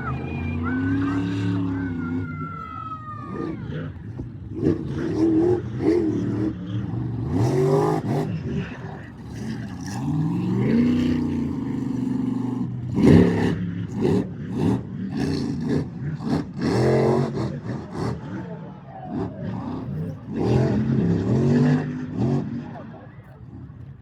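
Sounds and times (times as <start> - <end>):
truck engine revving hard: 0.0 - 23.8.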